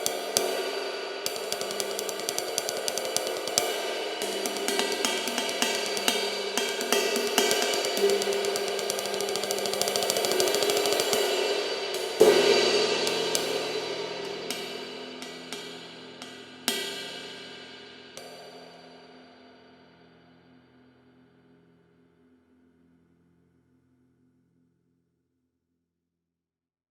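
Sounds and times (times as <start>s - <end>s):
ride cymbal played with stick: 0.0s - 21.9s.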